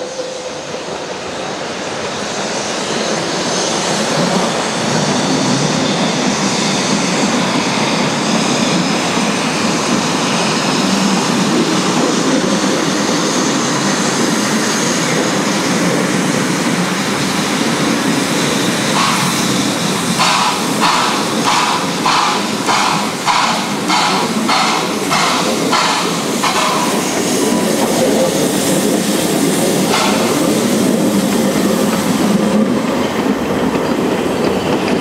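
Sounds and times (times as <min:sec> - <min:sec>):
steam train running: 0:00.0 - 0:35.0
steam locomotive exhaust chuffs: 0:03.1 - 0:35.0.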